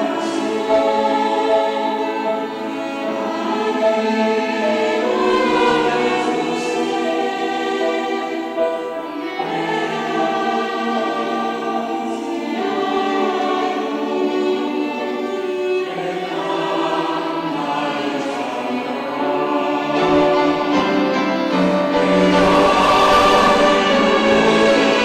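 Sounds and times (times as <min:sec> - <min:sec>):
church choir singing: 0:00.0 - 0:25.0.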